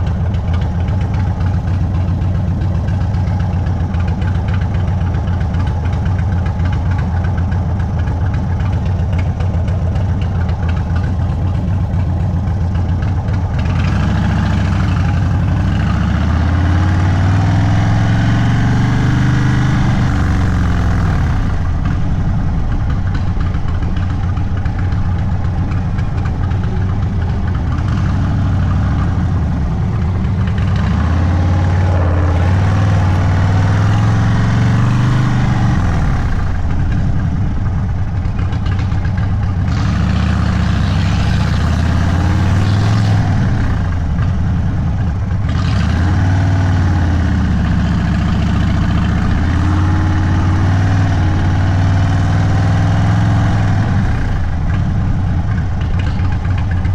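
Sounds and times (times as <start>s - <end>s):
motorcycle engine idling and accelerating: 0.0s - 56.9s.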